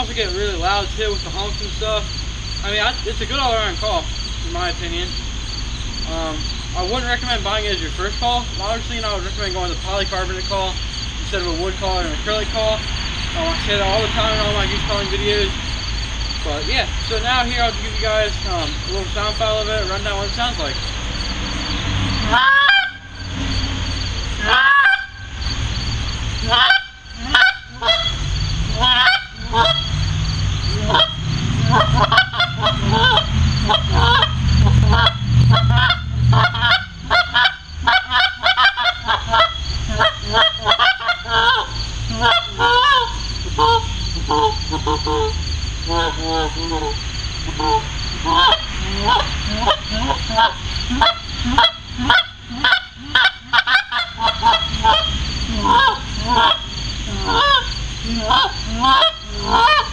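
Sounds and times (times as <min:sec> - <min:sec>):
goose call honks: 0:06.0 - 0:15.7, 0:16.4 - 0:59.9.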